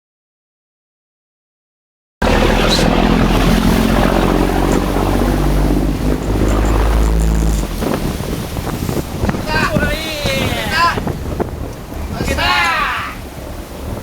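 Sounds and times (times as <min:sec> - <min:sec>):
boat engine droning: 0:02.2 - 0:14.0
water noise: 0:02.2 - 0:14.0
wind: 0:02.2 - 0:14.0.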